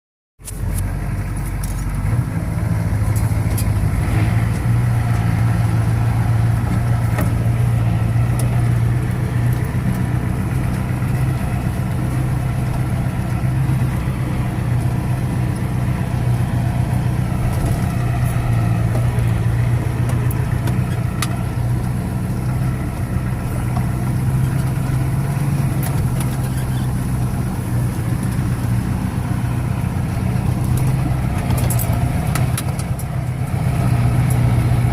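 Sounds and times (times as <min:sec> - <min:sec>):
diesel engine running: 0:00.4 - 0:34.9.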